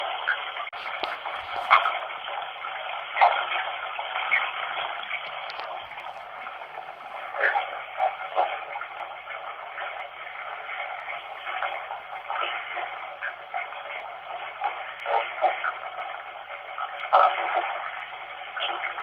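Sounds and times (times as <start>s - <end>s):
running water hiss: 0.6s - 18.9s.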